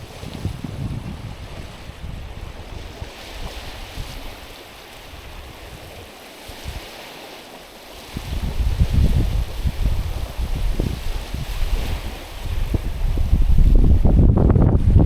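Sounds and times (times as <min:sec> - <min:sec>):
small waves on pebbly shore: 0:00.0 - 0:13.7.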